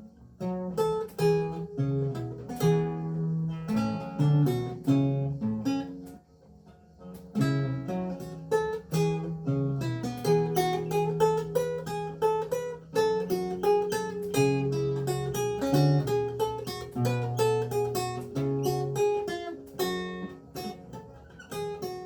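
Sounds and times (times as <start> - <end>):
solo lute playing: 0.0 - 22.0.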